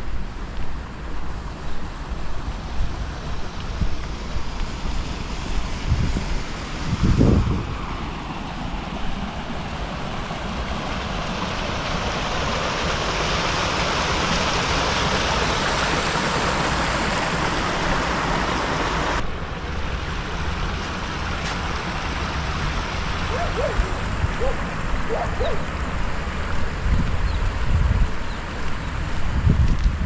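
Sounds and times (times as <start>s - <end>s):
waterfall splashing over boulders: 1.5s - 6.9s, 9.6s - 30.0s.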